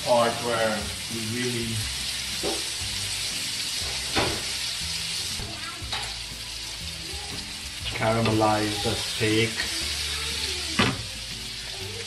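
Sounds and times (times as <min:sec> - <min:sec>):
steak sizzling in a frying pan: 0:00.0 - 0:12.0.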